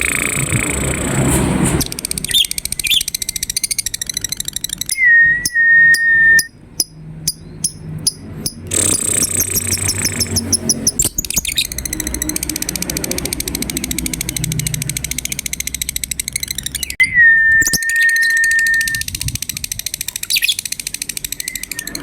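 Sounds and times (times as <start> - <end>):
lovebird chirping and trilling: 1.8 - 22.0.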